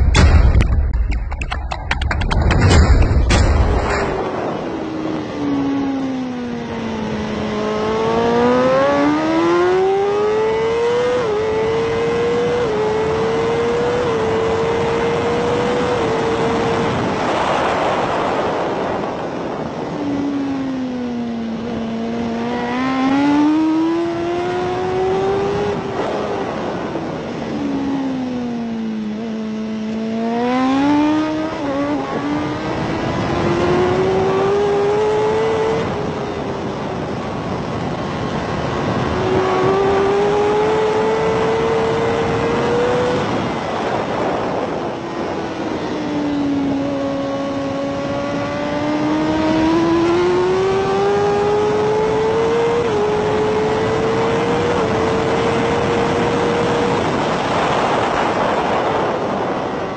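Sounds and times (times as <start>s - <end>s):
wind rushing: 0.0s - 7.4s, 13.6s - 59.9s
motorcycle engine at racing speed: 0.0s - 59.9s.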